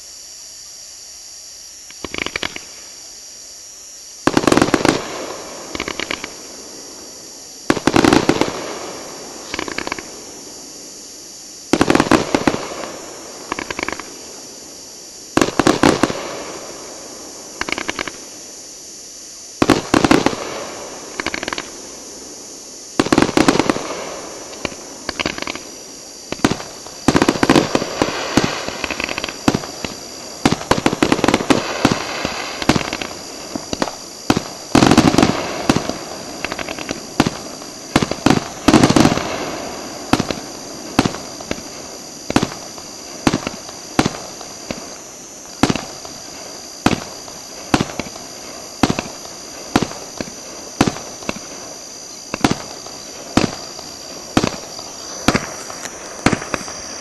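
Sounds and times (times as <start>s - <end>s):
fireworks bursting: 1.9s - 3.0s, 4.2s - 18.7s, 19.6s - 57.0s.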